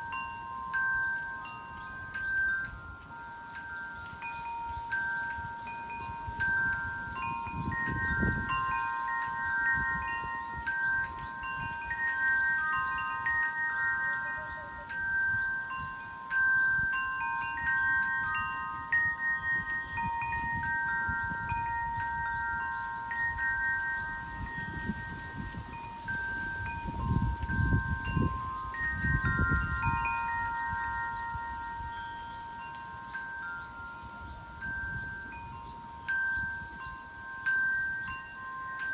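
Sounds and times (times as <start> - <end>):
wind chimes ringing: 0.0 - 38.9
wind gusts on microphone: 0.0 - 38.9.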